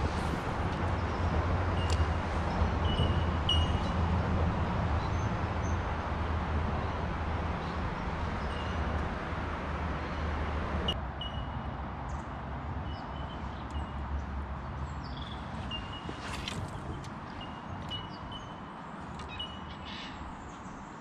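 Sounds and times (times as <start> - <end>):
traffic rumble on bridge: 0.0 - 21.0.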